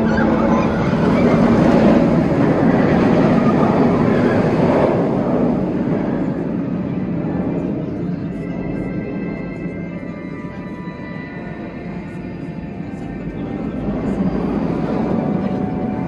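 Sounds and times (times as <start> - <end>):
roller coaster roaring on track: 0.0 - 16.0.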